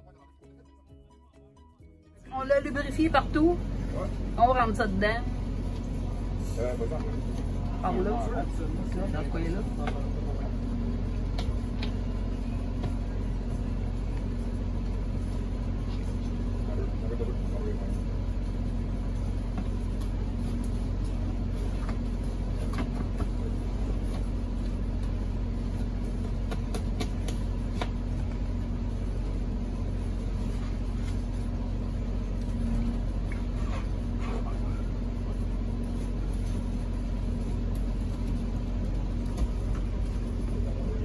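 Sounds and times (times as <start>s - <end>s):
machine rumble and hum: 0.0s - 41.0s.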